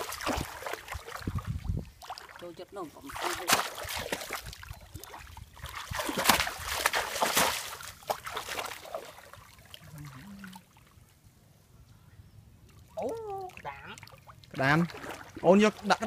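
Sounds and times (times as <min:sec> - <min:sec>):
water splashing and sloshing: 0:00.0 - 0:11.5, 0:12.6 - 0:16.0.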